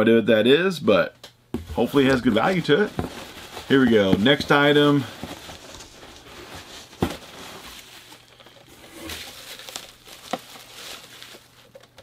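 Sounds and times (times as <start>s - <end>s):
rustling of packaging: 1.6s - 12.0s.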